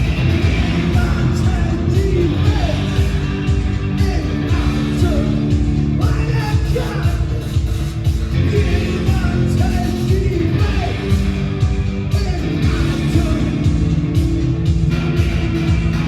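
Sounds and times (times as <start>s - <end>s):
heavy drum and bass hits: 0.0s - 16.0s
rock band playing live: 0.0s - 16.0s.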